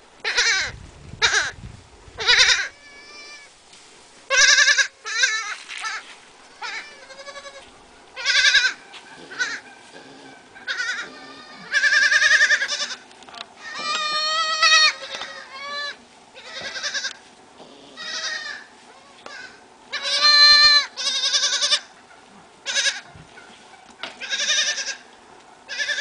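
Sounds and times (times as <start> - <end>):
goat kids bleating: 0.2 - 1.6, 2.2 - 3.5, 4.3 - 22.0, 22.6 - 23.2, 24.1 - 25.1, 25.7 - 26.0.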